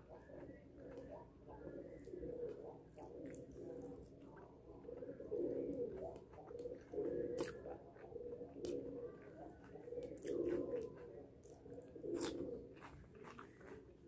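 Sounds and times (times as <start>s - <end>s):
dove cooing: 0.0s - 14.0s
faint chewing and clicks: 0.1s - 14.0s.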